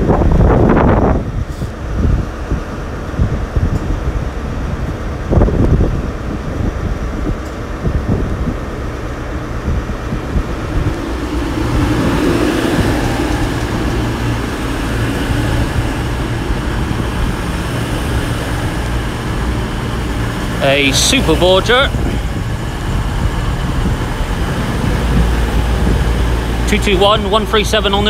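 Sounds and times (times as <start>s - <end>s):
diesel train engines: 0.0s - 28.0s
train wheels on rails: 0.0s - 28.0s.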